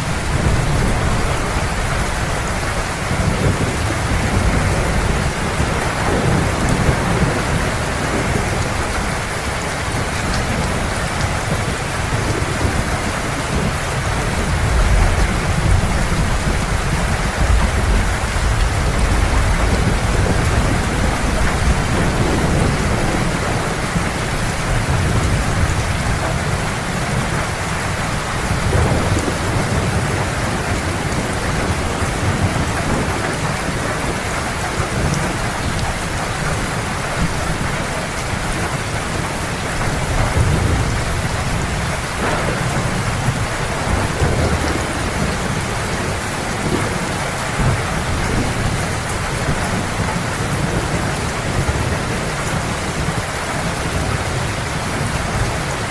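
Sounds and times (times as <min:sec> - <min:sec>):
heavy rain downpour: 0:00.0 - 0:55.9
low rolling thunder: 0:00.0 - 0:55.9.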